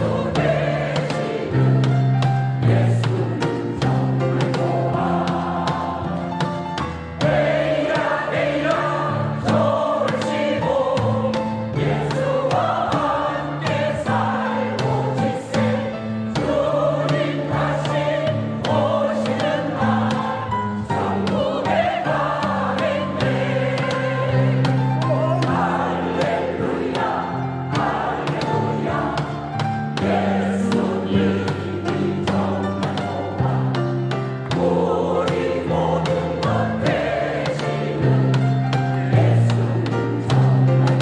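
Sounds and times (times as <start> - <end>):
choir singing a hymn: 0.0 - 41.0
instrumental accompaniment: 0.0 - 41.0.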